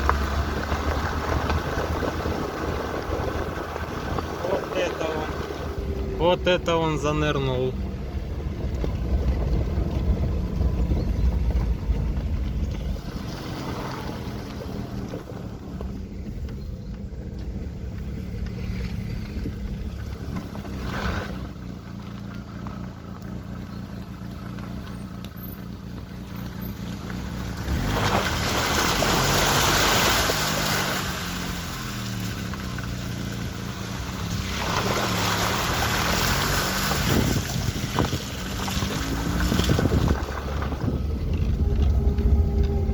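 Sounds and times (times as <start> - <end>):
vehicle engine under load: 0.0 - 42.9
water splashing under tyres: 0.0 - 42.9.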